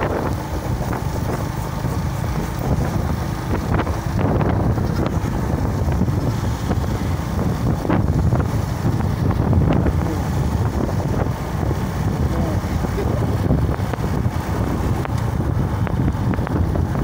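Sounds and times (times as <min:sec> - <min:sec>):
vehicle rumble on road: 0:00.0 - 0:17.0
wind buffeting microphone: 0:00.0 - 0:17.0.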